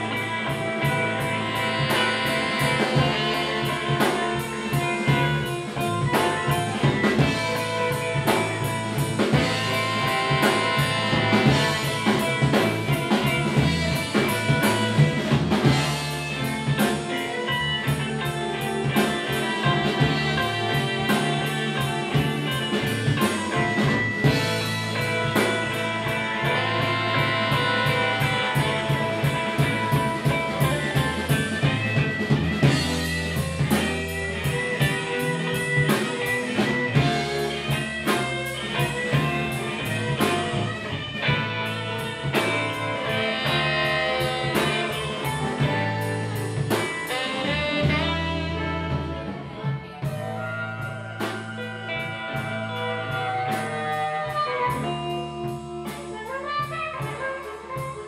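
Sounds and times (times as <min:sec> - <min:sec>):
bass and drums: 0:00.0 - 0:58.0
electric guitar: 0:00.0 - 0:58.0
saxophone: 0:00.0 - 0:58.0.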